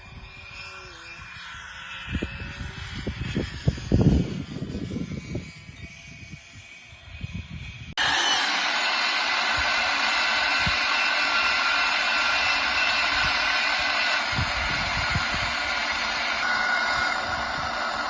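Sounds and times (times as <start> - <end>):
ducted fans whining: 0.0 - 18.0.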